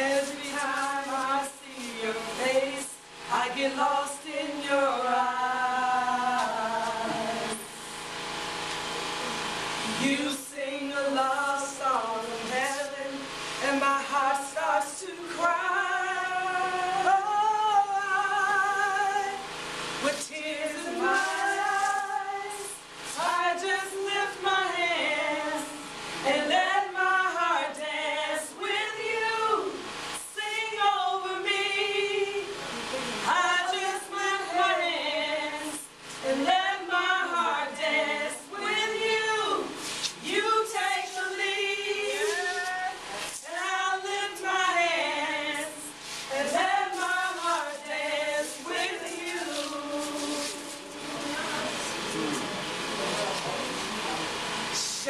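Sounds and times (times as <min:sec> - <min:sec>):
woman singing worship song: 0:00.0 - 0:52.9, 0:54.4 - 0:55.0.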